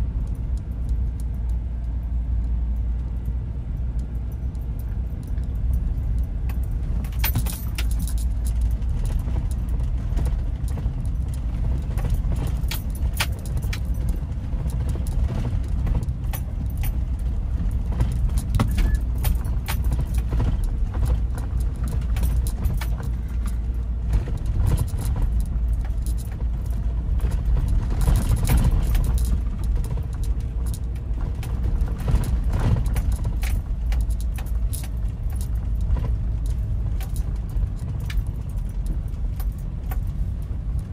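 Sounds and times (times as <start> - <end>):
road and engine rumble: 0.0 - 40.9
rattling and jingling clicks: 0.2 - 40.9.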